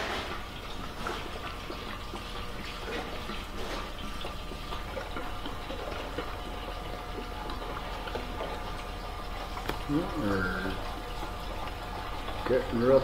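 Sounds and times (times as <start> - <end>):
fuel pouring into metal tank: 0.0 - 13.0.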